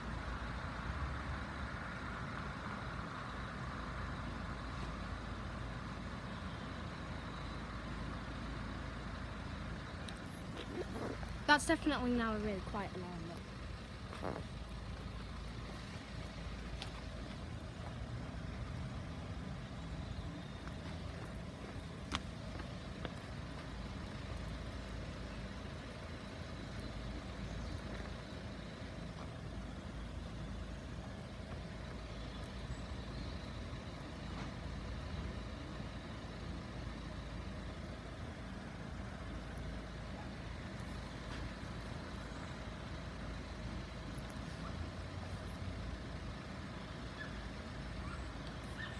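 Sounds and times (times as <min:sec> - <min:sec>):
vehicle engines rumbling: 0:00.0 - 0:48.9.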